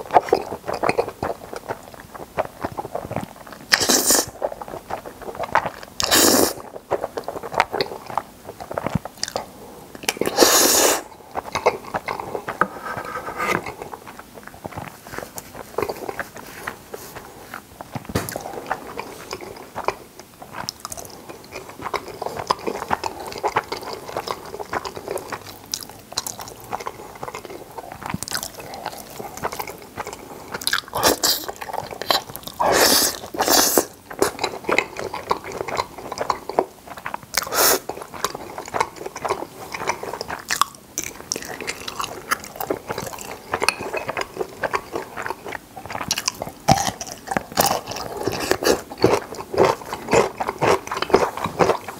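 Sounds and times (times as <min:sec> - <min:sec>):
wet chewing and slurping: 0:00.0 - 0:51.9.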